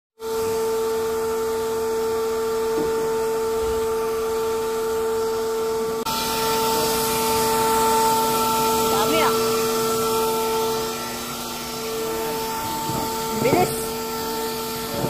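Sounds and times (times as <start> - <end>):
vacuum cleaner motor whining: 0.2 - 15.0.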